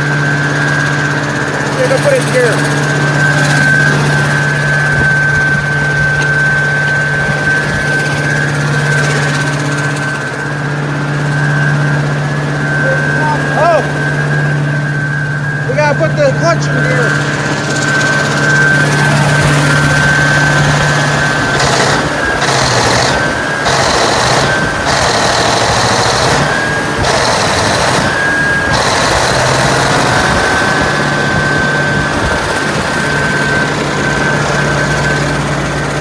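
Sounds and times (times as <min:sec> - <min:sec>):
harsh mechanical clatter: 0:00.0 - 0:12.6, 0:16.7 - 0:36.0
engine with high whine: 0:00.0 - 0:36.0.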